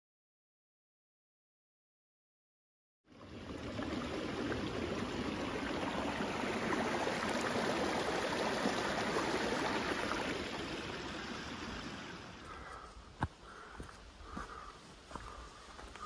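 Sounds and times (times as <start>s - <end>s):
creek running over rocks: 3.1s - 16.0s.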